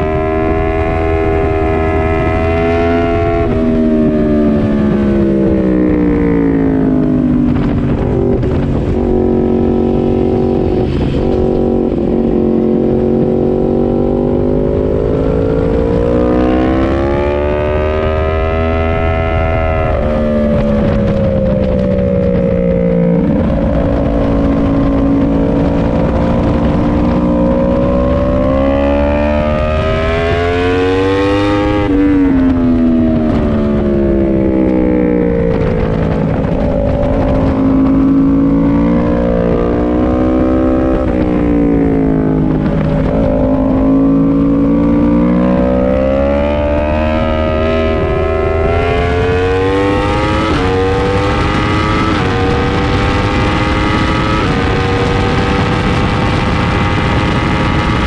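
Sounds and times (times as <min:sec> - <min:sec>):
low wind rush: 0:00.0 - 0:58.0
motorcycle engine revving: 0:00.0 - 0:58.0.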